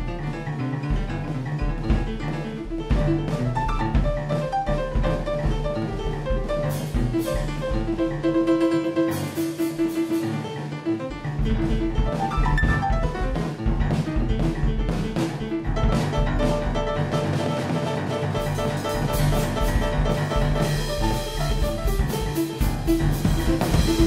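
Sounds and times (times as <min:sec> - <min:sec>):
acoustic piano: 0:00.0 - 0:24.0
drums and cymbals: 0:00.0 - 0:24.0.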